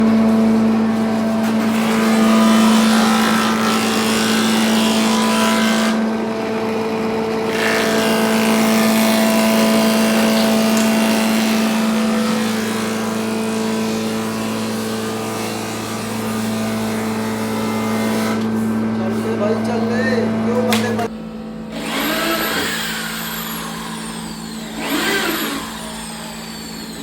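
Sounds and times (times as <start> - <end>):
power tool motor hum: 0.0 - 27.0.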